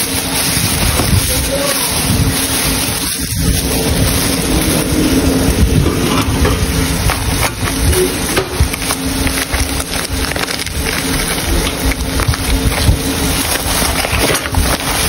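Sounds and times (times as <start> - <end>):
handling rumble on microphone: 0.0 - 15.0
plastic bags rustling: 0.0 - 15.0.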